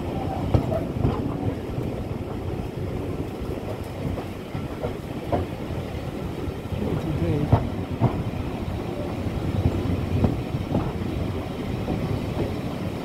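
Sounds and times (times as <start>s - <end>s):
train carriage rumbling: 0.0s - 13.0s
wheels knocking over rail joints: 0.0s - 13.0s.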